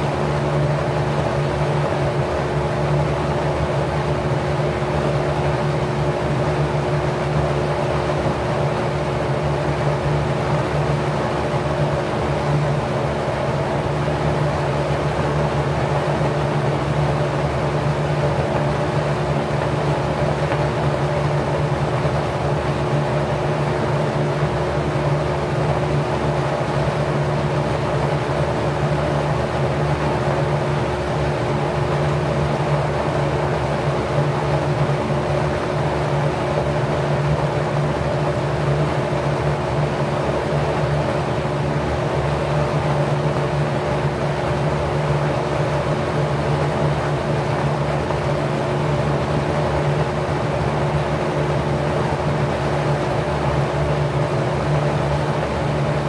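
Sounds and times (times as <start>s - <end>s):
rush of air from fan blades: 0.0s - 56.0s.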